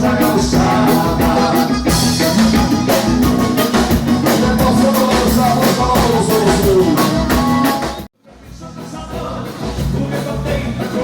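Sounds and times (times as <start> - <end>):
live band dance music: 0.0 - 11.0
person singing: 0.0 - 11.0
steady drum beat: 0.0 - 11.0.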